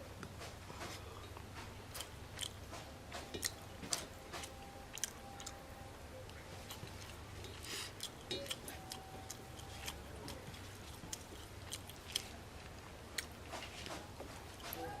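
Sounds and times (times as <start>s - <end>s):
low steady hum: 0.0s - 15.0s
chewing clicks and smacks: 0.2s - 5.6s, 6.3s - 14.8s.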